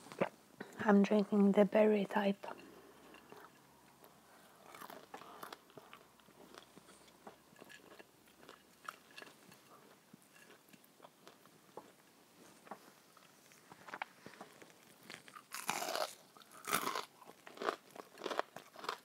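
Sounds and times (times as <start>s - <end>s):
chewing crunchy food: 2.5s - 12.1s, 13.2s - 19.0s.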